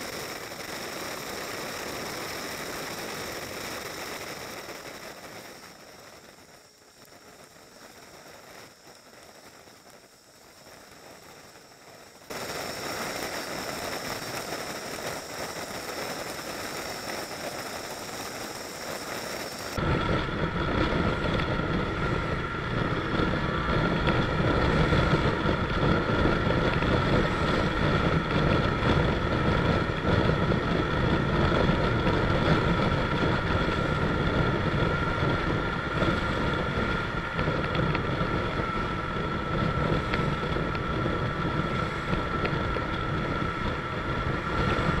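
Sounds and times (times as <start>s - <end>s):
wind rushing over microphone: 0.0s - 45.0s.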